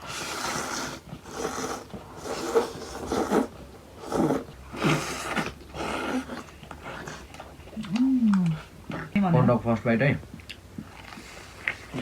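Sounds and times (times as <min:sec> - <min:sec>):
slurping and chewing: 0:00.0 - 0:09.2, 0:10.3 - 0:12.0.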